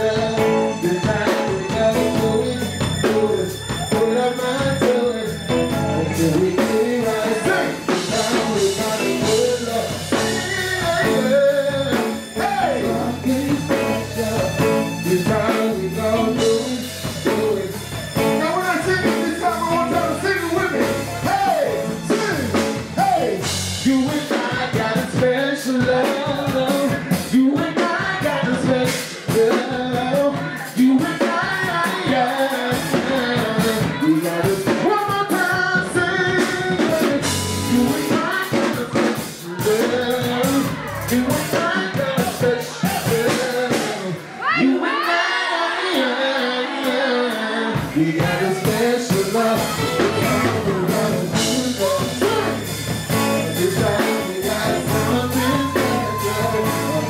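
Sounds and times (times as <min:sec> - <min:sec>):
drum kit beat: 0:00.0 - 0:44.3, 0:46.8 - 0:57.0
electric guitar: 0:00.0 - 0:45.0, 0:46.6 - 0:57.0
man singing: 0:00.0 - 0:57.0.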